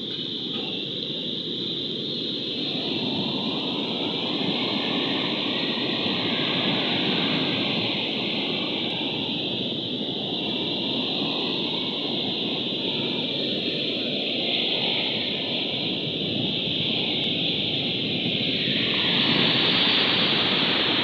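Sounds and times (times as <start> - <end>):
wind on microphone: 0.0 - 21.0
surf washing onto beach: 2.5 - 21.0.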